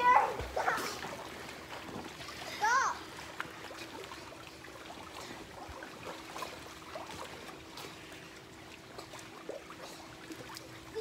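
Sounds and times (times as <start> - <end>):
faint steady hum: 0.0 - 11.0
pool water lapping and trickling: 0.0 - 11.0
swimmers splashing: 0.0 - 11.0.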